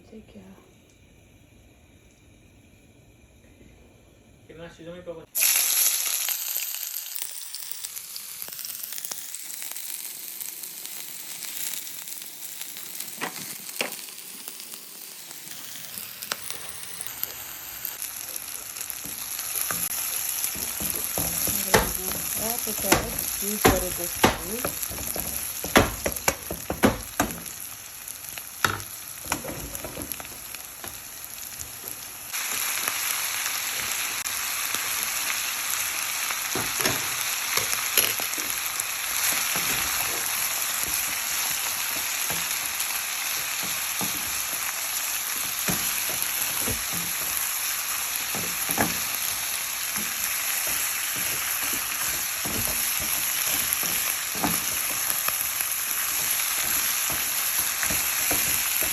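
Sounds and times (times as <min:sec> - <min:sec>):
chicken sizzling in hot oil: 0:05.3 - 0:58.9.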